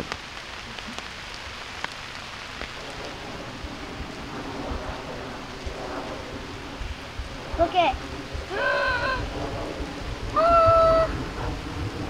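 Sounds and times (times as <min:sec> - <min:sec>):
sharp ticks of raindrops: 0:00.0 - 0:12.0
steady rain falling: 0:00.0 - 0:12.0.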